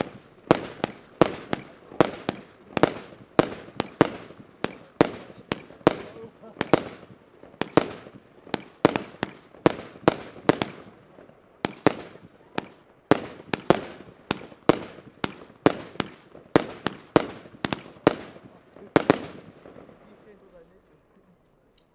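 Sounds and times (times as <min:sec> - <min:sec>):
firework bangs: 0:00.0 - 0:20.6.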